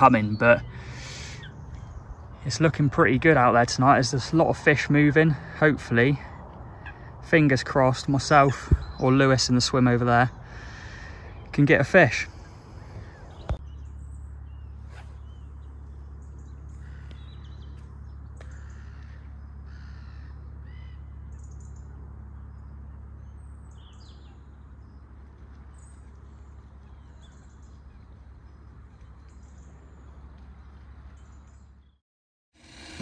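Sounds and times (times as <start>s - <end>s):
wild birds calling: 0.0s - 32.0s, 32.6s - 33.0s.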